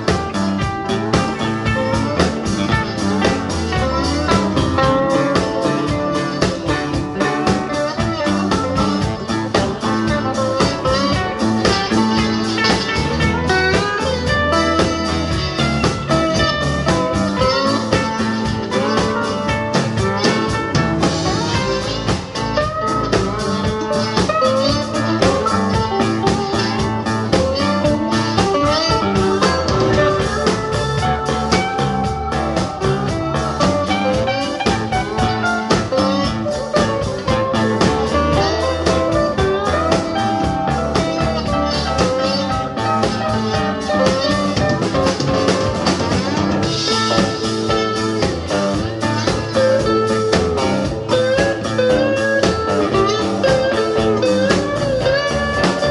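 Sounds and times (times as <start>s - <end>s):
live blues band playing: 0.0s - 55.9s
melodic lead line: 0.0s - 55.9s.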